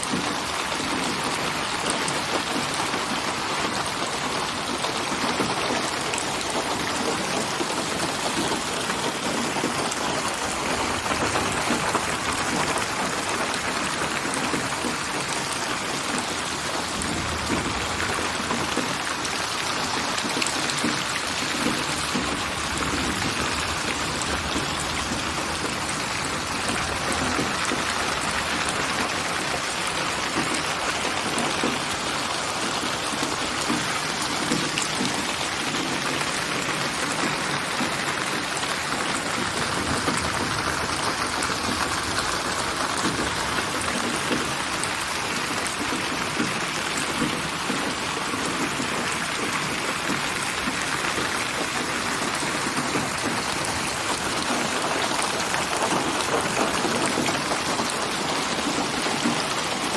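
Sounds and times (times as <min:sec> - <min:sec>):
dense rain falling: 0:00.0 - 0:59.9.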